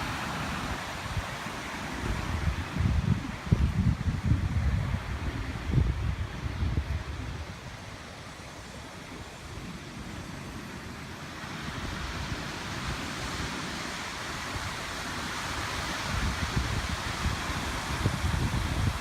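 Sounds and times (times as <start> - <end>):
surf washing ashore: 0.0 - 19.0
wind buffeting microphone: 0.0 - 19.0.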